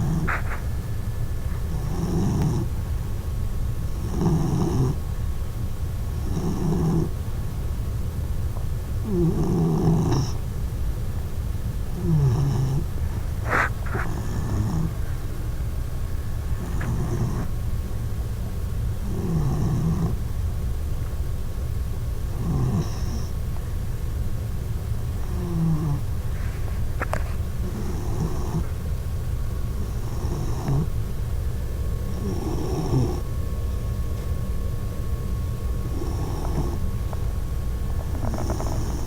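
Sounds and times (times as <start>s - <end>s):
puppy snoring: 0.0s - 7.6s, 9.0s - 10.7s, 11.7s - 18.0s, 18.8s - 20.5s, 22.0s - 24.0s, 24.9s - 39.0s.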